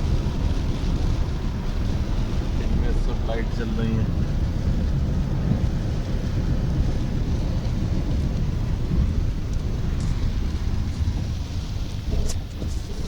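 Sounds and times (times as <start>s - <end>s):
car engine rumble: 0.0s - 13.0s
rain on car body: 0.0s - 13.0s.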